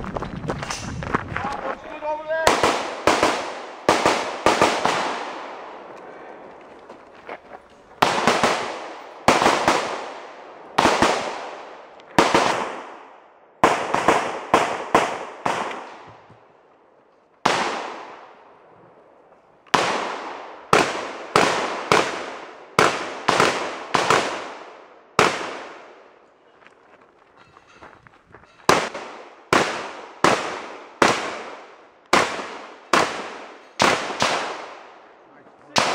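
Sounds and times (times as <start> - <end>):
gunshots echoing: 1.5 - 16.3, 17.4 - 18.5, 19.7 - 26.1, 28.4 - 35.1, 35.7 - 35.9.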